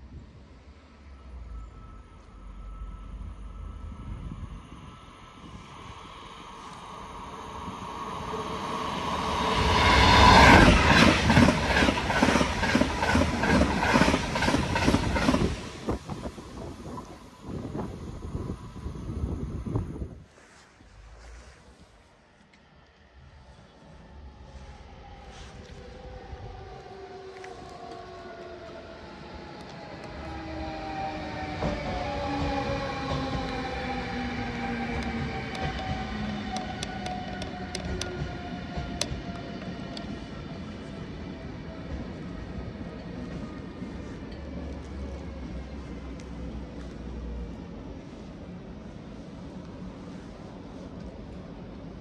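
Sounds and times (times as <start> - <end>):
electric locomotive drive whine: 0.0 - 52.0
train passing with rush: 0.0 - 52.0.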